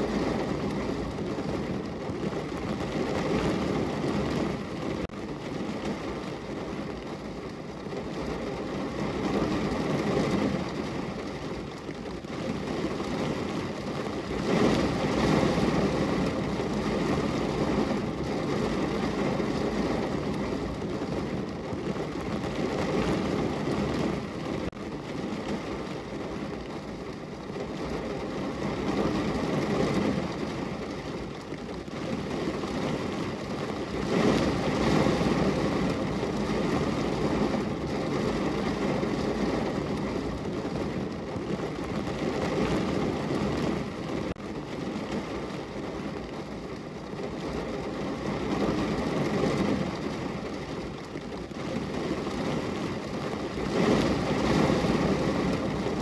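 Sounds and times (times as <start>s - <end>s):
rain falling on a window: 0.0s - 56.0s.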